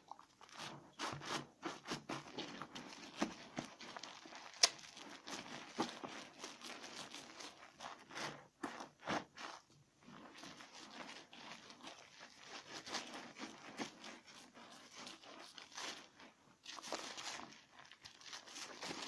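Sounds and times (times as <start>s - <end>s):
soap lathered by hand: 0.0s - 19.0s.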